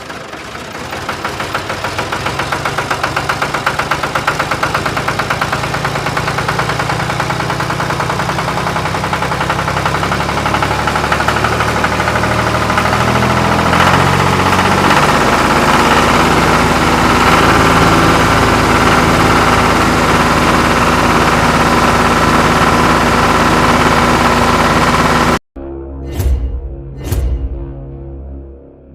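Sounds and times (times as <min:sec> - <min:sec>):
vehicle engine idling: 0:00.0 - 0:25.4.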